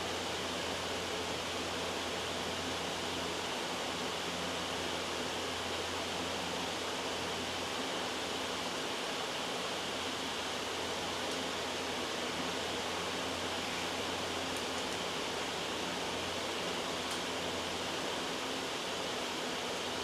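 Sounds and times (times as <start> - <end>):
white noise hiss: 0.0 - 20.0.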